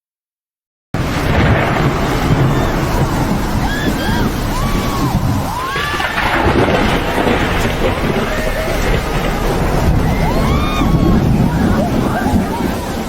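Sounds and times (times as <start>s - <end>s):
floodwater roaring: 1.0s - 13.0s
wind buffeting microphone: 1.0s - 13.0s
rising and falling cries: 2.0s - 13.0s.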